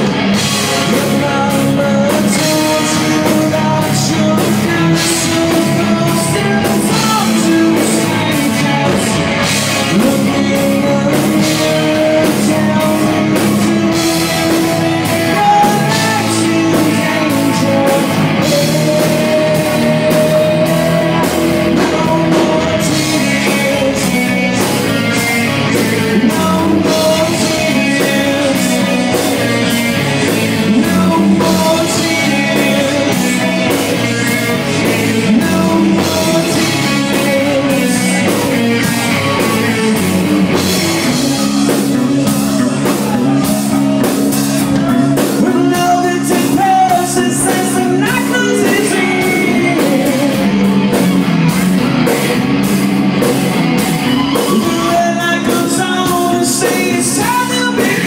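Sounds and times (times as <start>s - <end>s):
bass guitar: 0.0s - 58.0s
drum kit: 0.0s - 58.0s
electric guitar: 0.0s - 58.0s
man singing: 0.0s - 58.0s.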